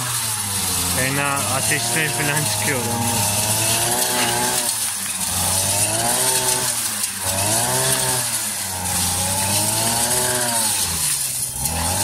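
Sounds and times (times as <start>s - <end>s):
brush cutter engine revving: 0.0s - 12.0s.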